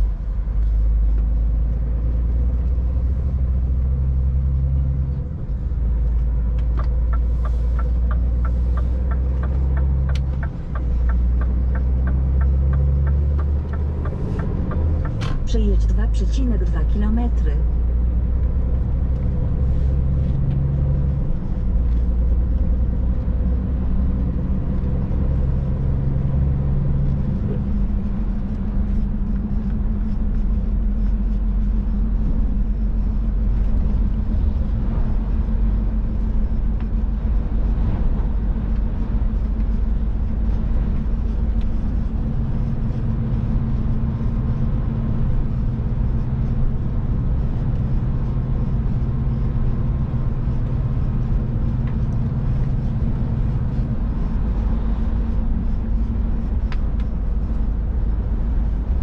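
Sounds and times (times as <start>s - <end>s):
road and tyre noise: 0.0s - 59.0s
truck engine drone: 0.0s - 59.0s.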